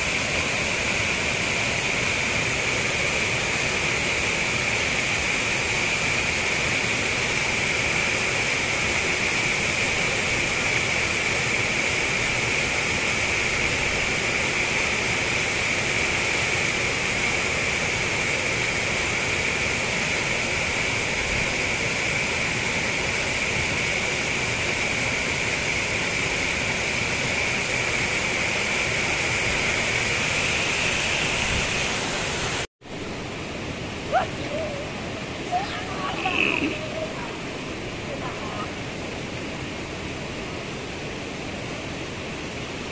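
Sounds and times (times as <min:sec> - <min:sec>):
waterfall splashing into pool: 0:00.0 - 0:42.9.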